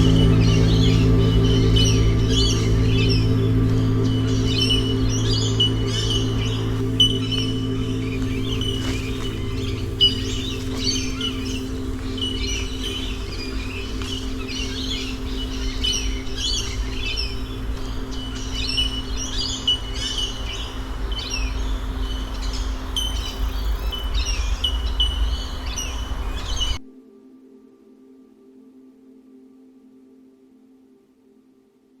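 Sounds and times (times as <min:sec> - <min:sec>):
low rumble: 0:00.0 - 0:26.8
wild birds chirping: 0:00.0 - 0:26.8
ambient music drone: 0:00.0 - 0:32.0.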